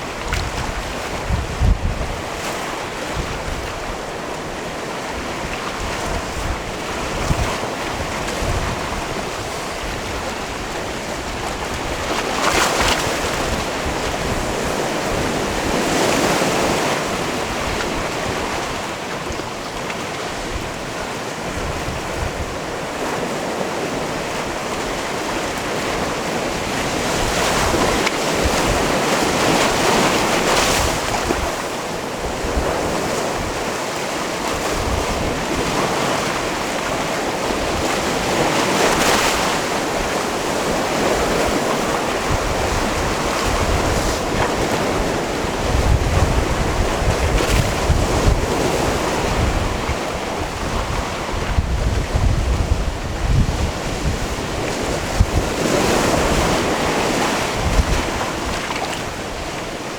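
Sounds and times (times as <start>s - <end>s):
waves washing against rocks: 0.0s - 59.9s.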